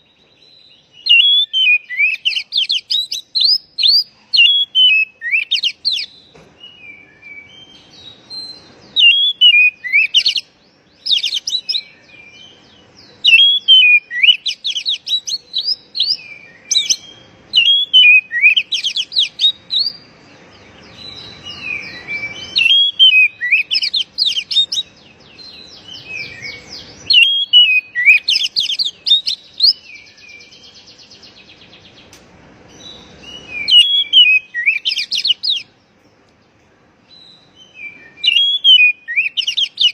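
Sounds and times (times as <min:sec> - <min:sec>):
bird singing whistled phrases: 0:00.0 - 0:20.1, 0:20.9 - 0:31.9, 0:32.7 - 0:35.7, 0:37.1 - 0:39.9.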